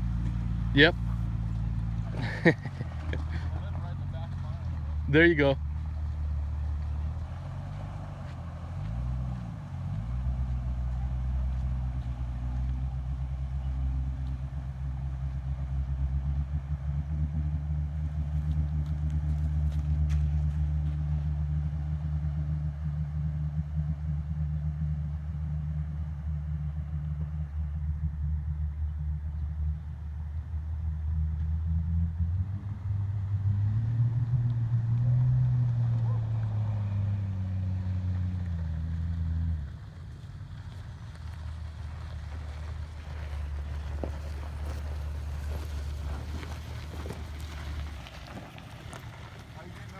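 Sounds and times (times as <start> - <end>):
car engine running and revving: 0.0 - 49.9.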